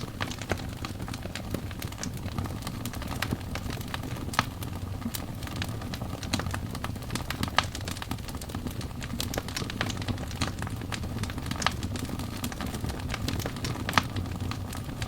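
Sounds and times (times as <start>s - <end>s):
low rumble of flame: 0.0s - 15.0s
wood fire crackling and popping: 0.0s - 15.0s.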